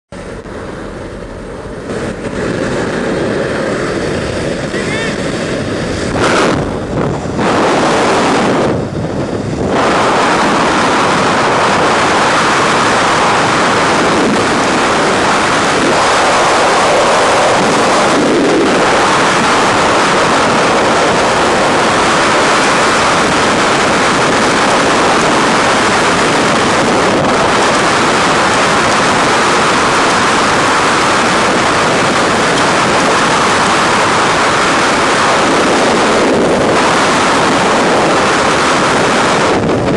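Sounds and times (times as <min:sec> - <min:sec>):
wind rushing over microphone: 0:00.1 - 0:39.9.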